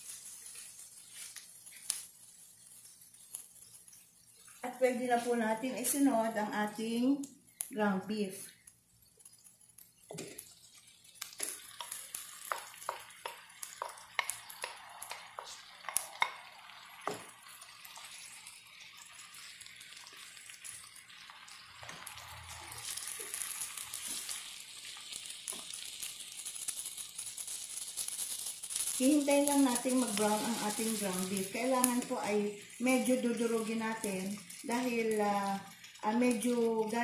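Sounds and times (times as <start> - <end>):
meat sizzling in a pan: 0.0 - 37.0.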